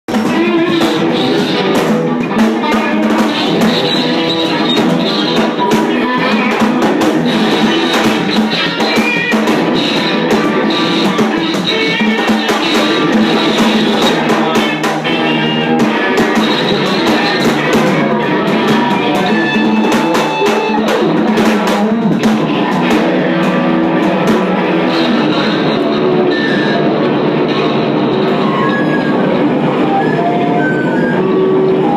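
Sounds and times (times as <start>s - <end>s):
distorted electric guitar: 0.0s - 31.9s
pounding drums: 0.1s - 28.6s.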